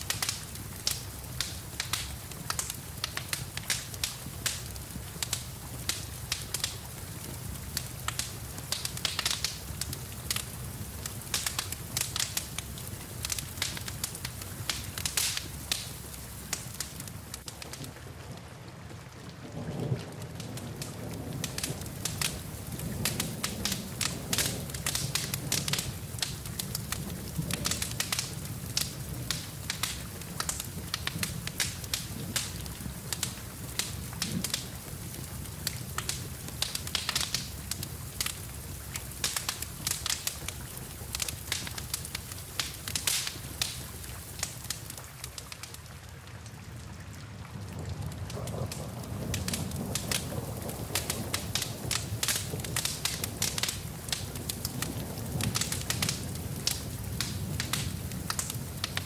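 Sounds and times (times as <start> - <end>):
falling rain: 0.0 - 59.0
wood fire crackling: 0.0 - 59.0.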